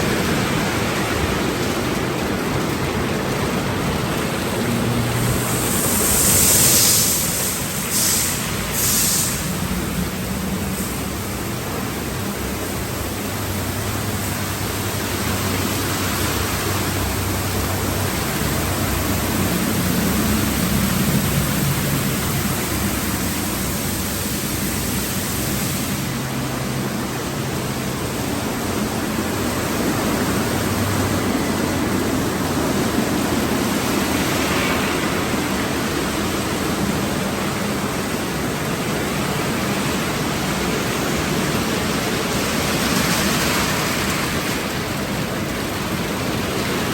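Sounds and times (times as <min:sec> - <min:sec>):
water spray rushing: 0:00.0 - 0:46.9.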